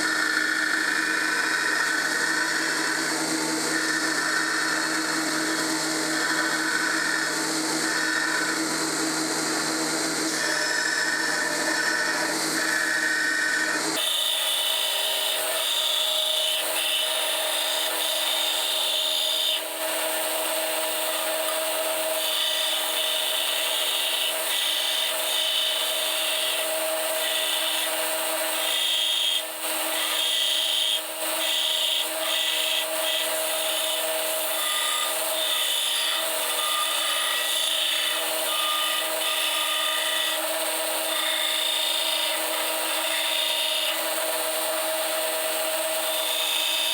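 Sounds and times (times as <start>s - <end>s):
electric grinder running: 0.0s - 46.9s.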